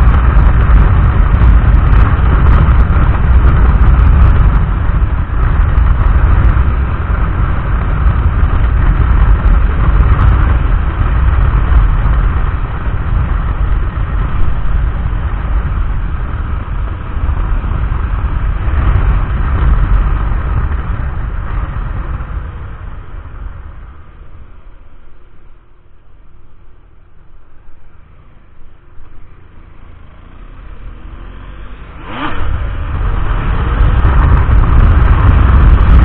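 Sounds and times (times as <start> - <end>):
wind on microphone: 0.0 - 30.0, 30.8 - 36.0
motorcycle engine and road noise: 0.0 - 36.0.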